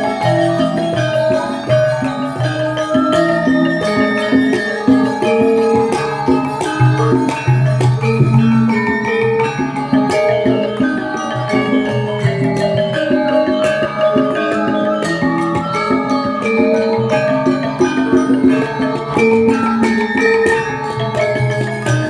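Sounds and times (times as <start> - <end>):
hand drum strokes: 0.0 - 22.0
metallophones and gongs ringing: 0.0 - 22.0.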